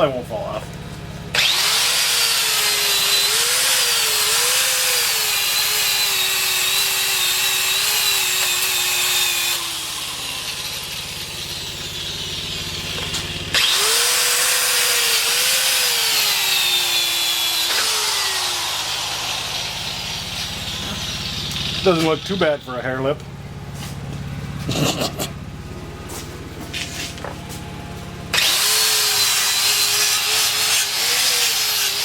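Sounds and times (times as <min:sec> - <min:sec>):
power grinder on metal: 0:01.3 - 0:23.2, 0:24.6 - 0:25.3, 0:28.3 - 0:32.0.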